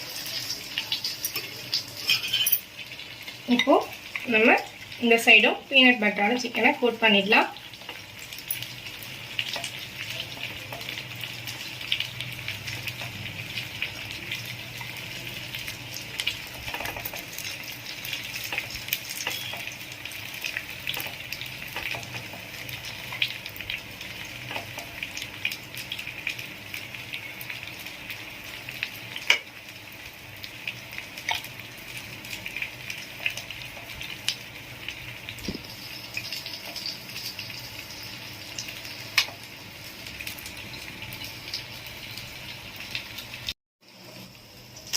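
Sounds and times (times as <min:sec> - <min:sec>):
chicken sizzling in oil: 0:00.0 - 0:44.9.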